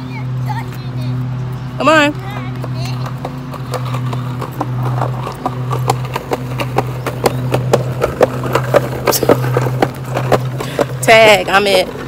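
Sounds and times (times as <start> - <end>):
footsteps on concrete: 0.4 - 12.0.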